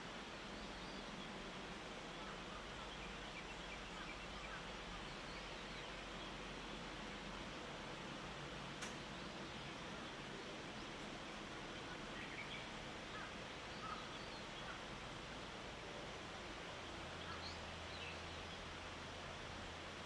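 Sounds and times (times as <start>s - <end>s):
steady hiss: 0.0s - 20.0s
faint bird chirps: 0.3s - 7.7s, 8.7s - 19.0s.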